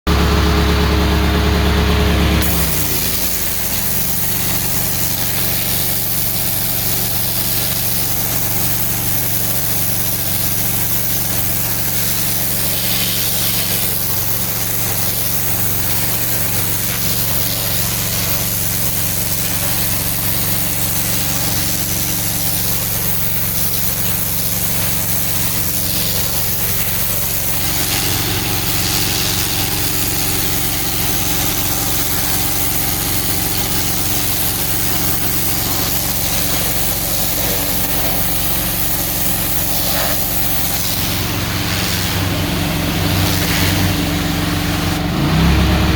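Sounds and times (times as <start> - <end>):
pressure washer engine humming: 0.0 - 45.9
high-pressure water spray hissing: 2.4 - 45.9.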